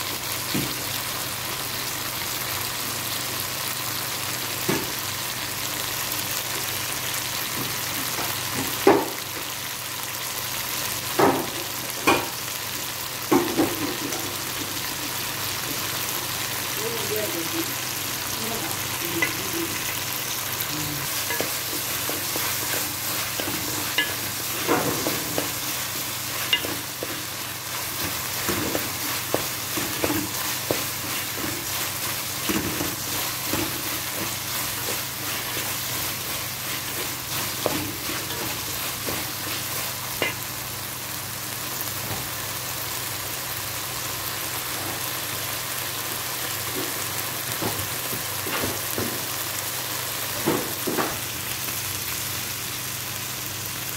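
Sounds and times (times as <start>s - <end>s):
chicken and vegetables sizzling in oil: 0.0s - 53.9s.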